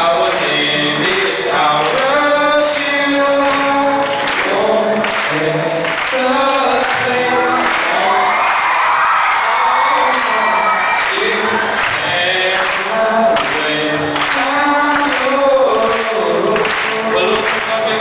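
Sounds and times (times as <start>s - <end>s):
boys singing into microphones: 0.0s - 18.0s.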